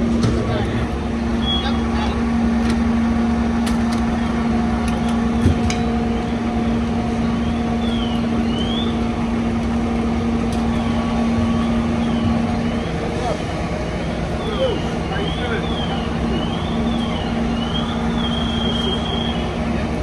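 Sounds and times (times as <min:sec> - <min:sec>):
diesel engine drone: 0:00.0 - 0:20.0
steady pitched hum: 0:00.0 - 0:20.0.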